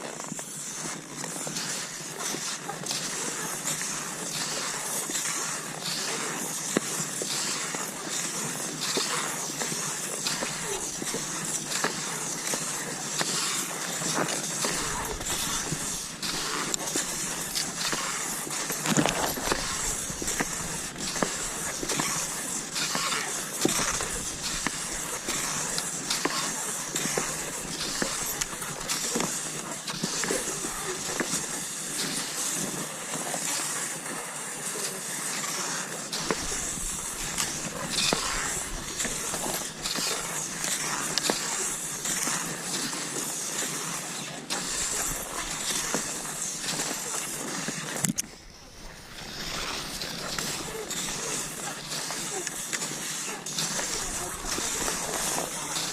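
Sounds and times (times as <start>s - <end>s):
skis sliding over snow: 0.0s - 55.9s.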